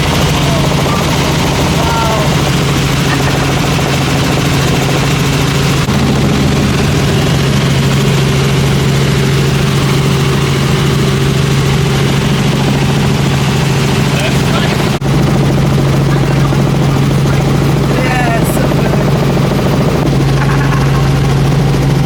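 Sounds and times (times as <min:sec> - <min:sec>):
helicopter engine and rotor: 0:00.0 - 0:22.0.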